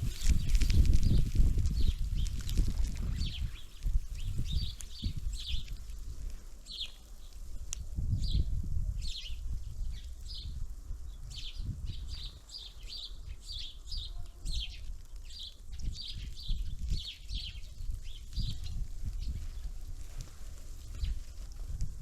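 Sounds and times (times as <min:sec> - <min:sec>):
songbirds chirping: 0:00.0 - 0:21.5.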